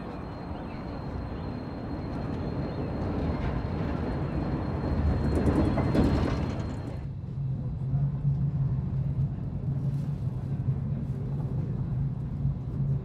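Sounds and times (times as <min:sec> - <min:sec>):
tram rumbling along rails: 0:00.0 - 0:13.0.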